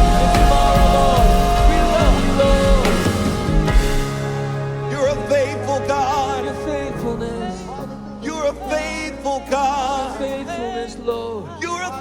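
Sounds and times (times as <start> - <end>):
person singing with vibrato: 0.0 - 12.0
worship band music: 0.0 - 12.0.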